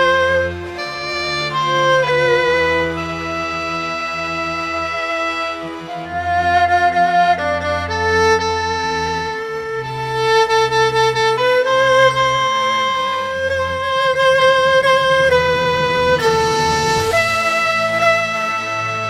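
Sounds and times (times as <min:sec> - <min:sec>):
erhu and sheng melody: 0:00.0 - 0:19.0
low accompaniment: 0:00.0 - 0:19.0.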